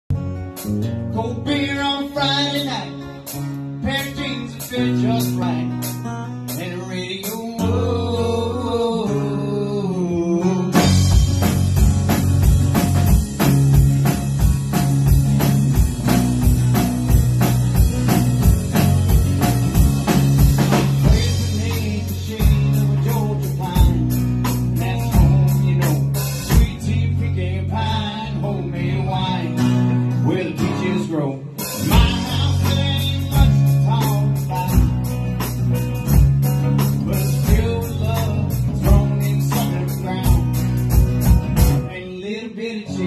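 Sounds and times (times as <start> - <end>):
live rock band playing: 0.1 - 43.0.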